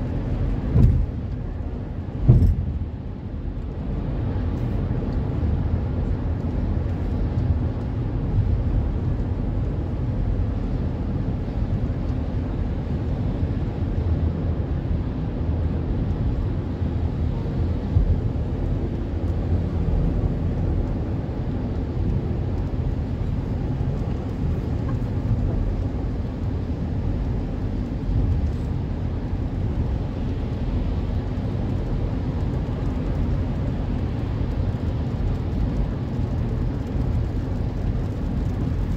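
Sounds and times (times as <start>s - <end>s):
low engine and wind rumble: 0.0s - 38.9s
tyres rolling on wet road: 0.0s - 38.9s.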